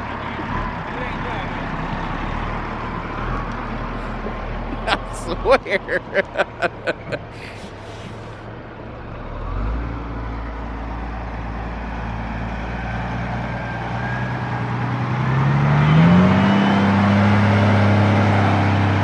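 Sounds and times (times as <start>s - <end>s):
truck diesel engine under load: 0.0s - 5.0s, 7.1s - 19.0s.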